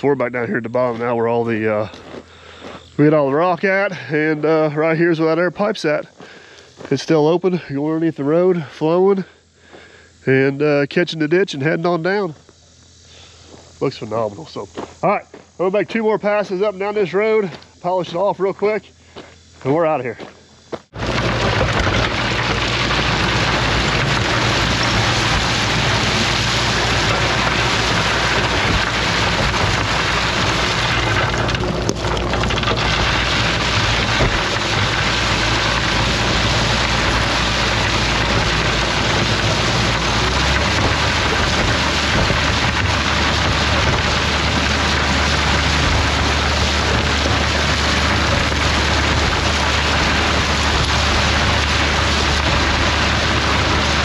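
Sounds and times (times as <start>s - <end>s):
diesel engine running: 0.0s - 54.0s
machine and gravel hiss: 0.0s - 54.0s.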